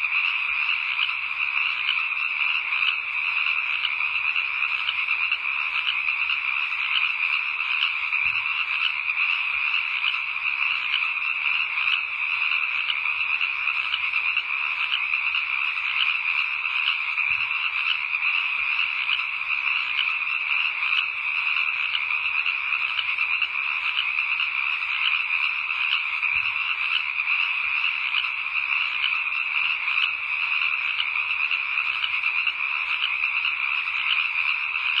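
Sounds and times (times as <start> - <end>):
chorus of calling animals: 0.0 - 35.0.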